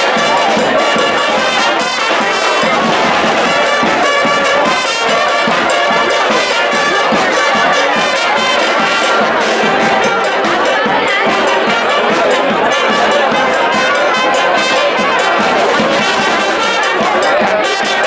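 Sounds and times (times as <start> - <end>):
brass band playing loudly: 0.0 - 18.0.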